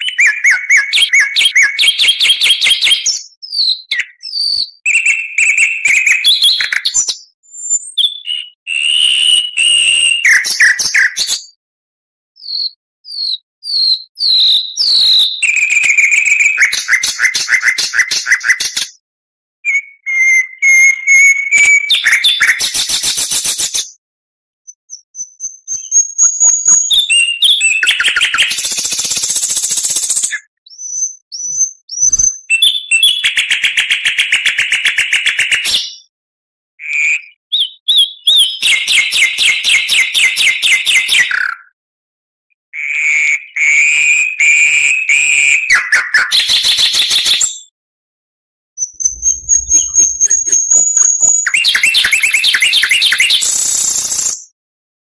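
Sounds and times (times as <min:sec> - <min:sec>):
bird singing whistles: 0:00.0 - 0:11.6, 0:12.4 - 0:19.0, 0:19.6 - 0:24.0, 0:24.6 - 0:36.1, 0:36.8 - 0:41.7, 0:43.1 - 0:47.7, 0:48.8 - 0:54.6.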